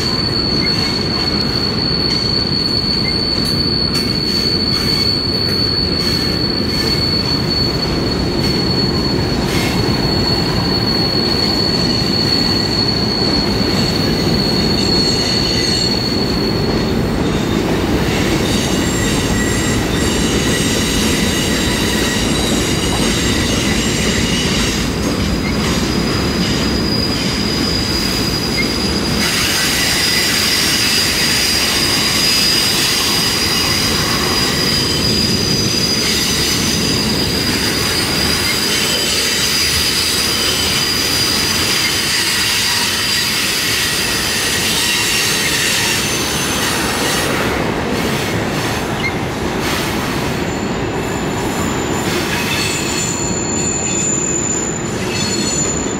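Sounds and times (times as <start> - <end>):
high-pitched wheel squeal: 0.0 - 47.7, 50.4 - 55.9
steel wheels rumbling on rail: 0.0 - 55.9.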